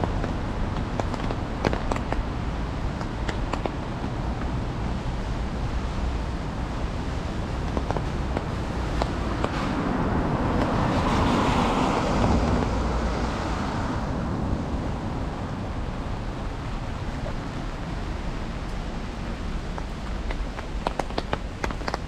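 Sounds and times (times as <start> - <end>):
tyres hissing on wet road: 0.1 - 22.0.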